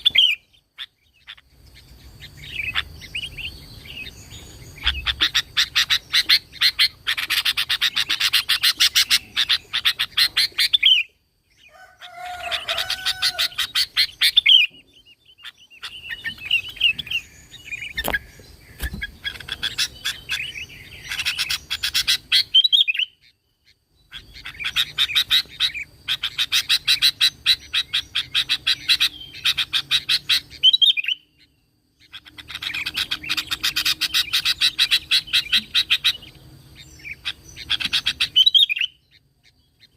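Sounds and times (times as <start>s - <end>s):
bird chattering calls: 0.0s - 23.3s, 24.0s - 39.9s.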